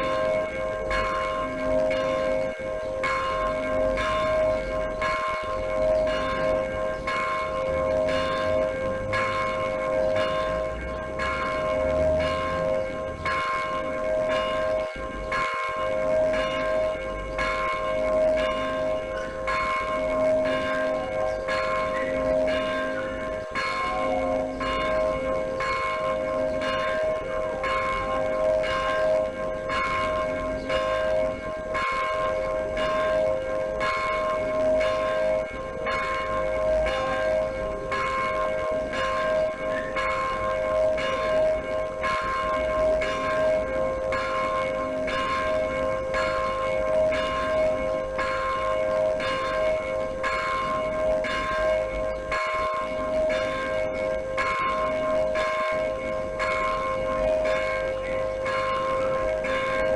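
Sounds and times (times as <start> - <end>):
church bells ringing: 0.0 - 59.9
lower bell: 0.0 - 59.9.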